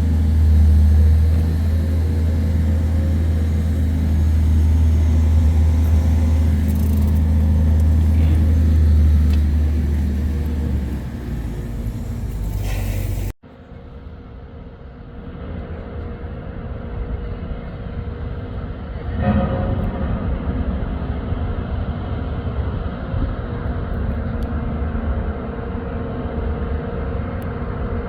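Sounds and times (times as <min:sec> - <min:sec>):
large engine rumbling: 0:00.0 - 0:13.4, 0:15.4 - 0:28.0.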